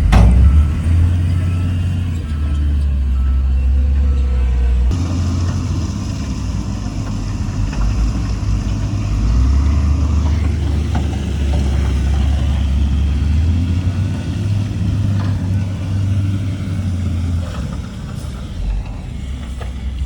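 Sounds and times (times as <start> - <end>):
diesel machinery engine running: 0.0 - 20.0.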